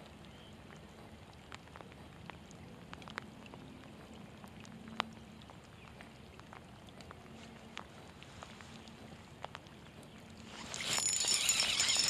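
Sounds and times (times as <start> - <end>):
raindrops ticking: 0.0 - 12.0.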